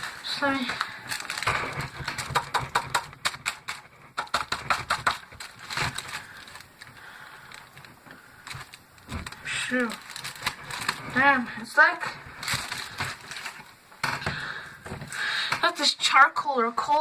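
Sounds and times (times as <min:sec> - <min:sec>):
battery clicking and crackling: 0:00.0 - 0:11.4, 0:12.3 - 0:15.7.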